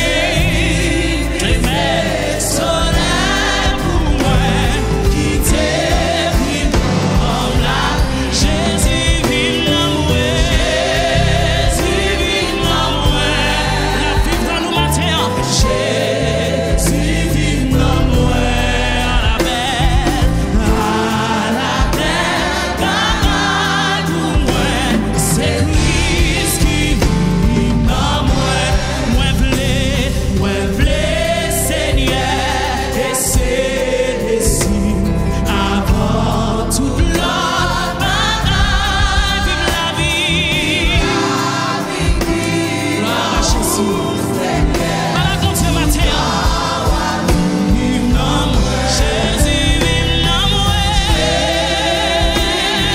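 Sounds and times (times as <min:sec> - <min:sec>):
band with electric bass: 0:00.0 - 0:52.9
instrumental accompaniment: 0:00.0 - 0:52.9.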